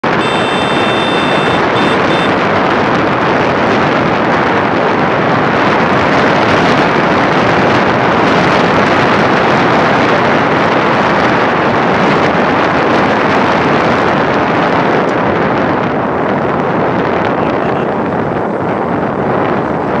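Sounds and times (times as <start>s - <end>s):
road and engine noise: 0.0s - 20.0s
wind buffeting microphone: 1.6s - 20.0s.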